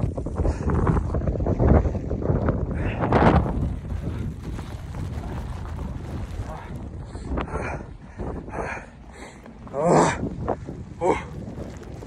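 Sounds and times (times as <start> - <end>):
wind gusting on microphone: 0.0 - 12.0.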